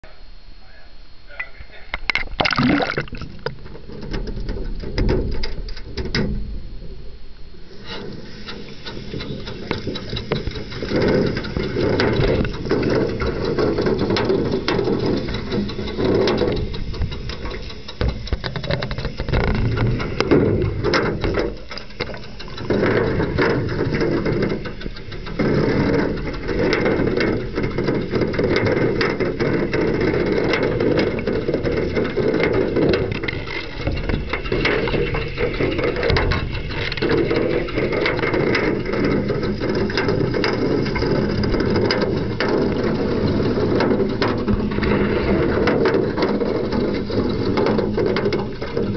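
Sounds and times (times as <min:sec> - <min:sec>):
print washer churning: 0:07.8 - 0:48.9.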